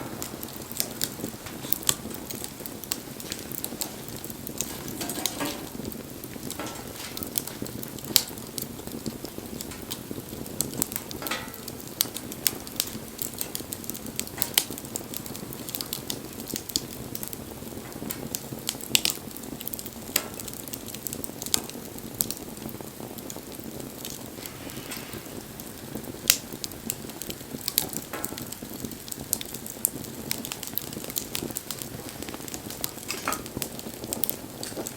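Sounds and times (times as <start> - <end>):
fire crackling and popping: 0.0 - 34.9
fire hissing: 0.0 - 34.9.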